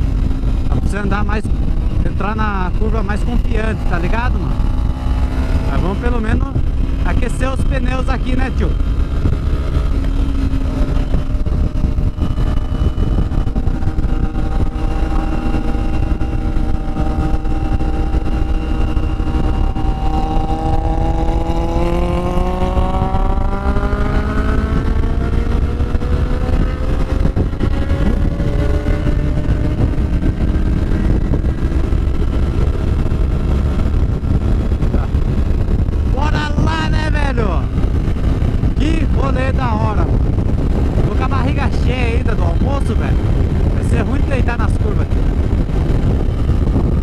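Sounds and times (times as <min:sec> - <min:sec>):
motorcycle engine accelerating: 0:00.0 - 0:47.0
wind rumble on microphone: 0:00.0 - 0:47.0.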